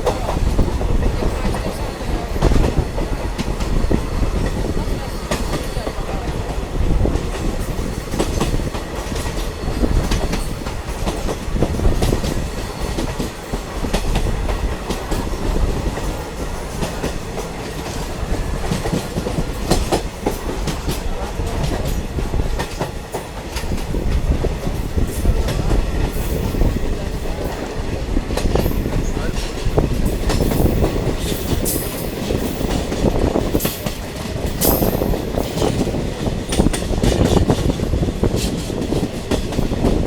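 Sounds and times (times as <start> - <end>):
train carriage rumble: 0.0 - 40.0
wheels clicking over rail joints: 0.0 - 40.0.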